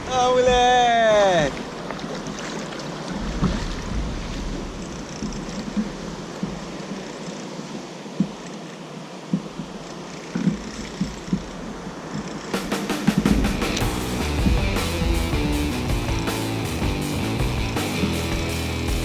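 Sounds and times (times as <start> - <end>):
water lapping against kayak: 0.0 - 15.6.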